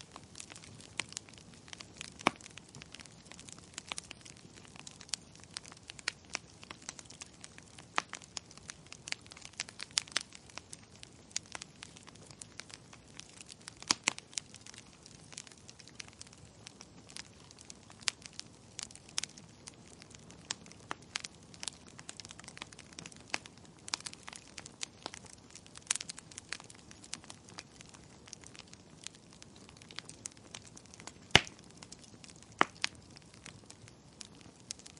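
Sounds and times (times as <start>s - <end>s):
faint steady hiss: 0.0s - 34.9s
wood fire crackling and popping: 0.0s - 34.9s.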